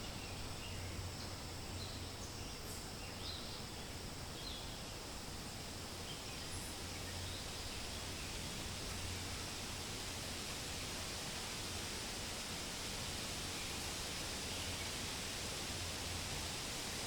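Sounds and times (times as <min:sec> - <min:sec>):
wind through leaves: 0:00.0 - 0:17.0.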